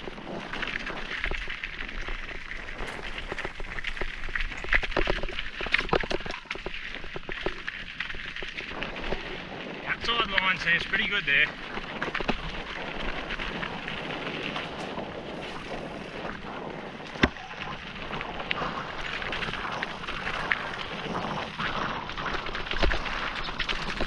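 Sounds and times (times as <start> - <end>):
bike rattling and clicking: 0.0 - 24.0
wind on microphone: 0.0 - 24.0.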